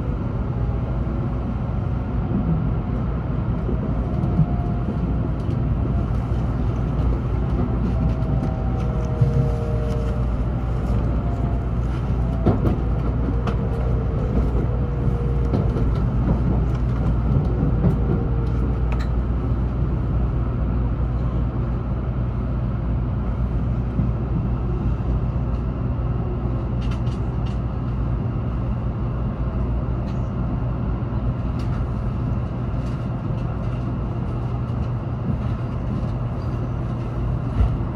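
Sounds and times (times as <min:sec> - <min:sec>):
train running rumble: 0:00.0 - 0:37.9.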